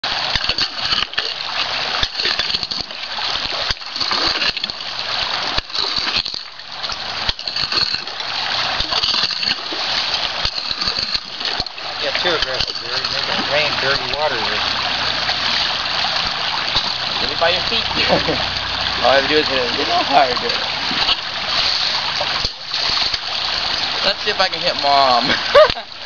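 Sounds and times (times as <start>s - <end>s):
water splashing: 0.0s - 26.0s.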